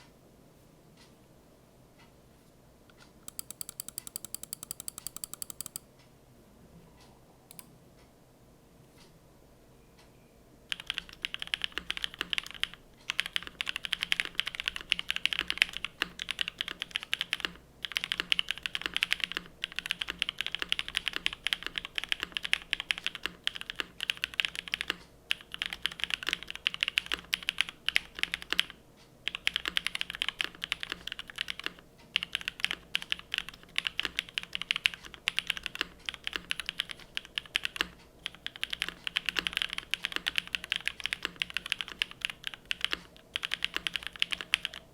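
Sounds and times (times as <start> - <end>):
mechanical keyboard typing: 3.2 - 5.8, 10.7 - 44.9.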